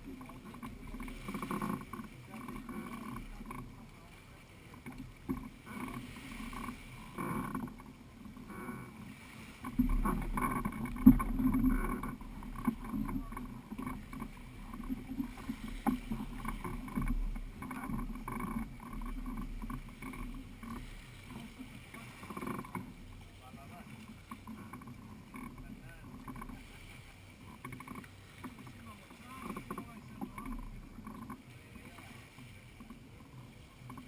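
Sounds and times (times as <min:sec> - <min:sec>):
knocks and bumps in inflatable boat: 0:00.0 - 0:34.0
water sloshing: 0:00.0 - 0:34.0.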